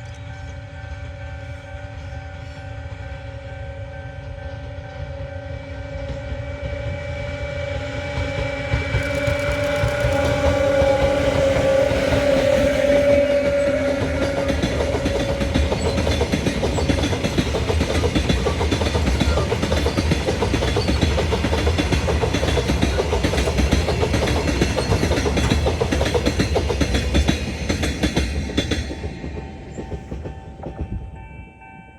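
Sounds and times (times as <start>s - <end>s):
train wheels clattering: 5.8s - 31.7s.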